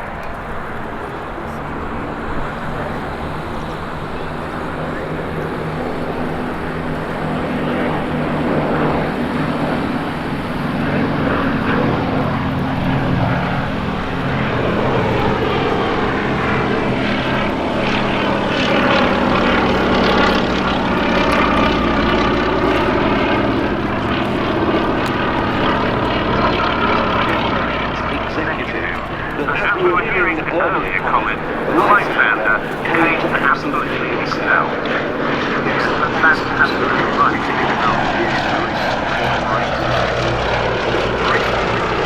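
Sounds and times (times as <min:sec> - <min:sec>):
aircraft radial engine droning: 0:00.0 - 0:42.0.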